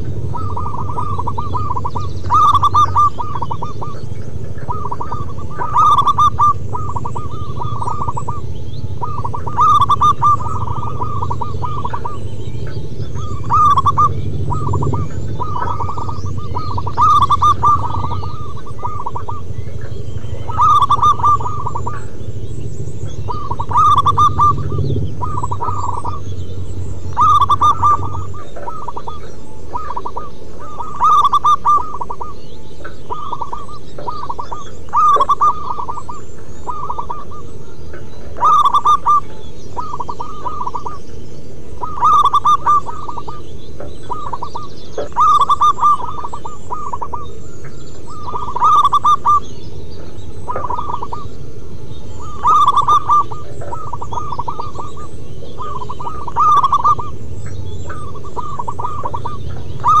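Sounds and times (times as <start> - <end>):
doves cooing: 0.0 - 60.0.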